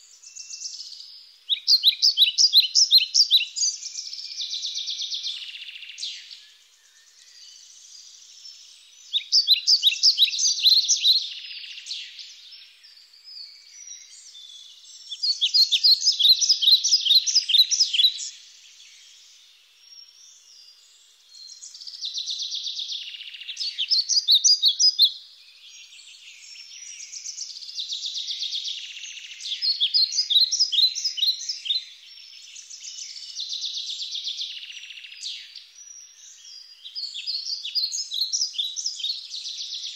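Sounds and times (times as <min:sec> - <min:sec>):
faint bird chirping: 0:00.0 - 0:39.9.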